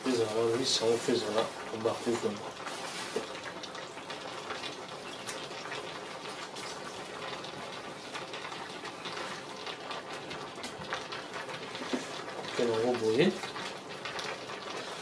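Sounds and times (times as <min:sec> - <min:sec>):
pot boiling: 0:00.0 - 0:15.0.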